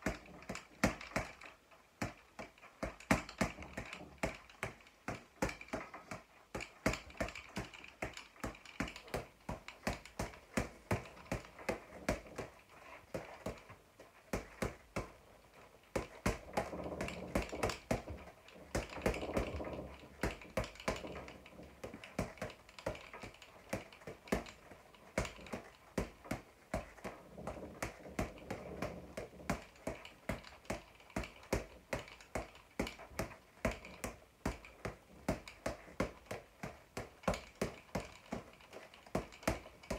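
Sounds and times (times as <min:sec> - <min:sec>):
gloves smacking punching ball: 0:00.0 - 0:39.9.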